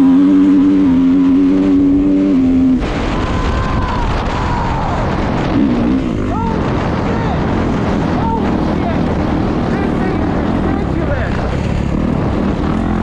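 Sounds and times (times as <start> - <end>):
dirt bike engine revving: 0.0 - 13.0
rushing wind: 0.0 - 13.0
trail noise: 0.0 - 13.0.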